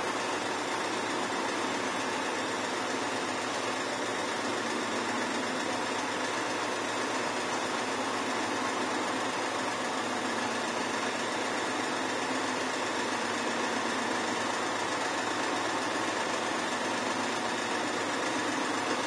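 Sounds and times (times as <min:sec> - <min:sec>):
drill press running: 0:00.0 - 0:19.0.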